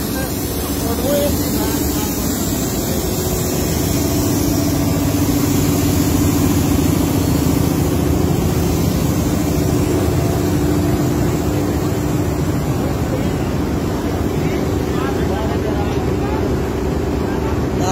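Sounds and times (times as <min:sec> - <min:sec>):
locomotive engine idling: 0:00.0 - 0:17.9.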